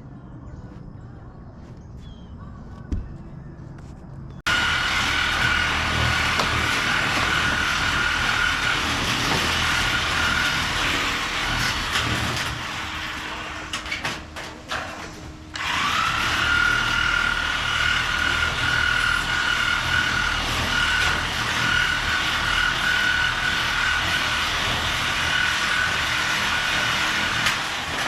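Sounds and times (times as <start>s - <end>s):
motor-driven machine whining: 4.5s - 28.0s.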